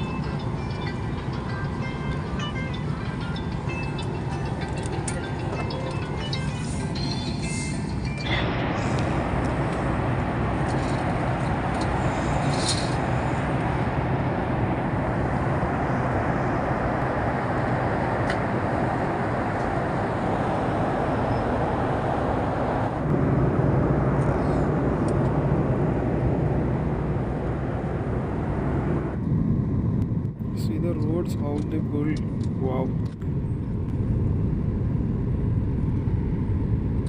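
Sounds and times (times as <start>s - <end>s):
jet engines and airflow rushing: 0.0s - 37.0s.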